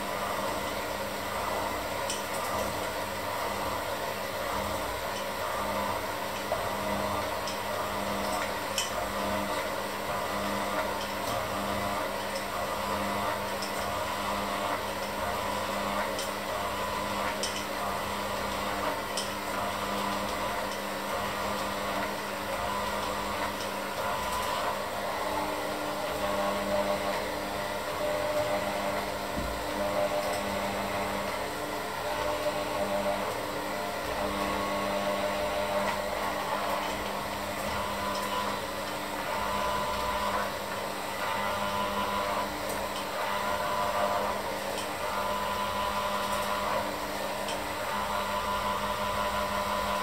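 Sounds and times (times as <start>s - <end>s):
electric hand mixer running: 3.0s - 50.0s.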